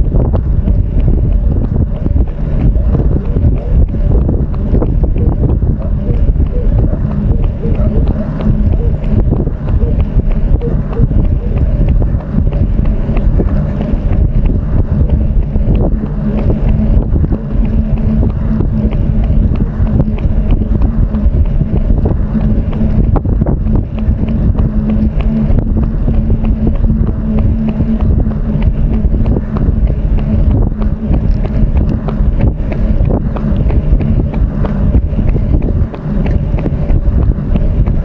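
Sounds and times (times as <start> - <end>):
steady low hum: 0.0 - 38.0
wind buffeting microphone: 0.0 - 38.0.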